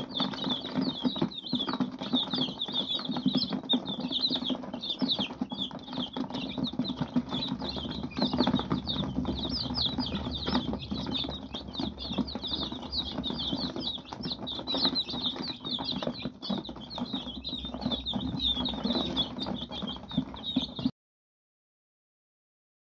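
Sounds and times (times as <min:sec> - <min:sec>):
chicks pecking and scratching: 0:00.0 - 0:20.9
chicks peeping: 0:00.0 - 0:20.9.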